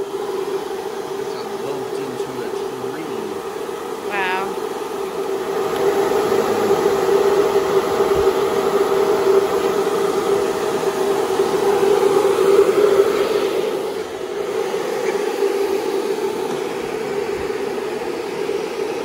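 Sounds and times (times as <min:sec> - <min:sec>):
hiss of noise: 0:00.0 - 0:19.0
mechanical hum: 0:00.0 - 0:19.0.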